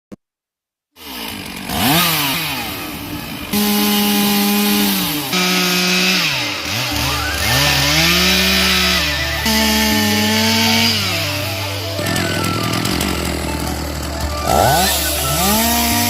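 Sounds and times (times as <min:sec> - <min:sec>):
chainsaw cutting a tree: 0:01.0 - 0:16.0.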